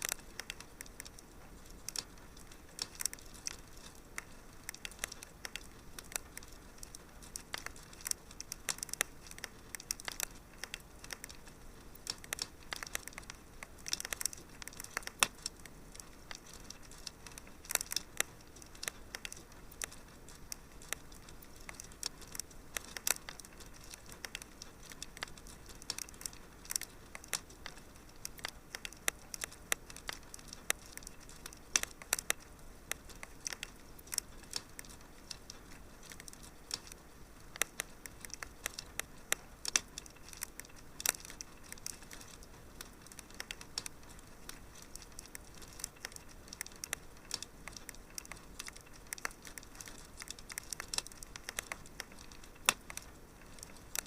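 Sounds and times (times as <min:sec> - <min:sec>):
faint steady hiss: 0:00.0 - 0:54.0
wood fire crackling and popping: 0:00.0 - 0:54.0.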